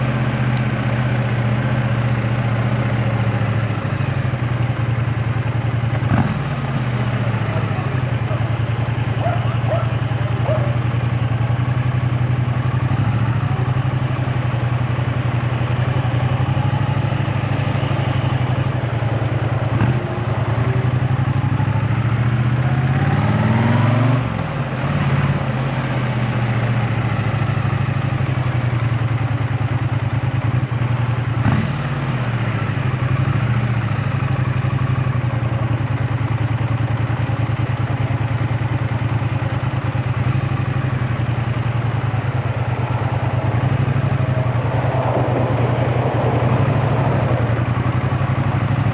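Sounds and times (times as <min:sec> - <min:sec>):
motorcycle engine running: 0:00.0 - 0:48.9
road and wind noise: 0:00.0 - 0:48.9.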